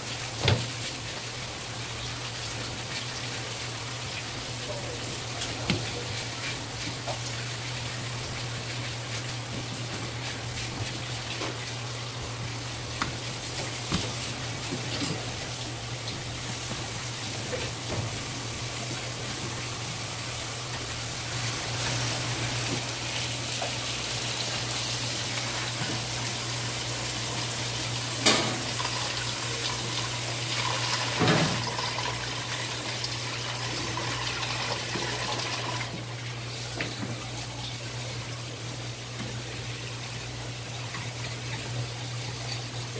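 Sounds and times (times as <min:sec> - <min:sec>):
tap water running into basin: 0:00.0 - 0:42.9.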